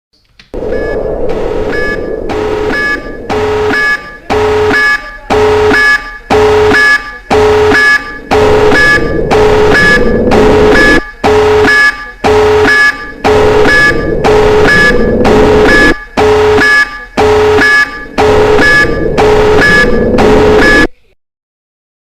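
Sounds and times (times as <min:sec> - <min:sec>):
continuous rumbling noise: 0:00.3 - 0:21.0
pulsing buzzy alarm: 0:00.6 - 0:20.9.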